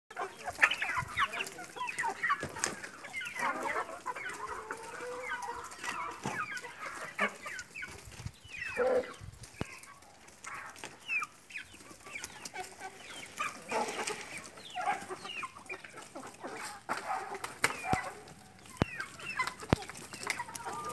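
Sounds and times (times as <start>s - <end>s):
chickens clucking: 0.1s - 20.9s.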